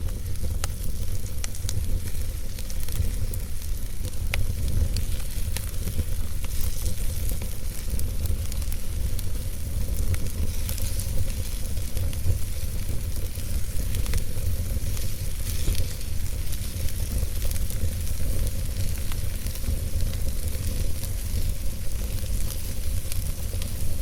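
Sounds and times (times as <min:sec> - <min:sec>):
fire crackling and popping: 0:00.0 - 0:24.0
wood fire rumble and hiss: 0:00.0 - 0:24.0.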